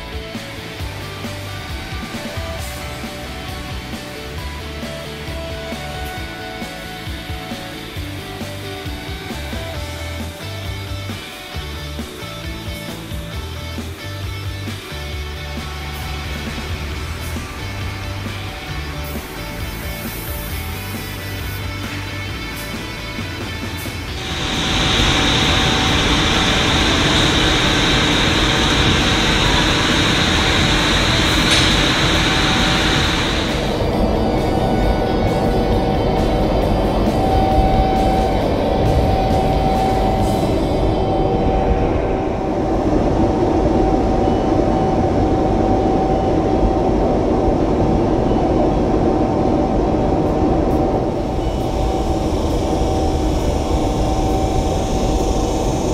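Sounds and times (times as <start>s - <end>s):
machine noise with hiss: 0.0s - 55.9s.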